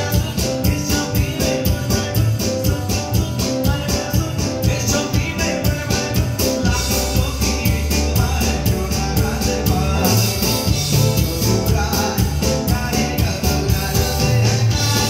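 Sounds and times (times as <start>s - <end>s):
drum kit beat: 0.0s - 15.0s
heavy bass line: 0.0s - 15.0s
keyboard: 0.0s - 15.0s
man singing: 0.0s - 15.0s.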